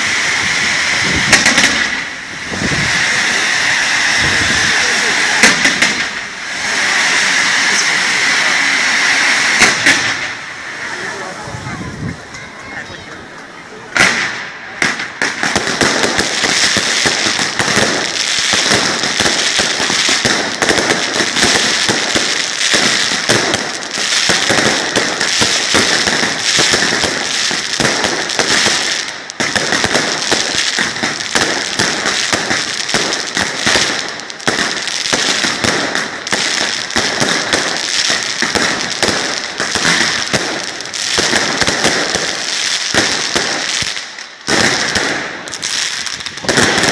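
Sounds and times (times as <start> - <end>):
firecrackers crackling: 0.0 - 46.9.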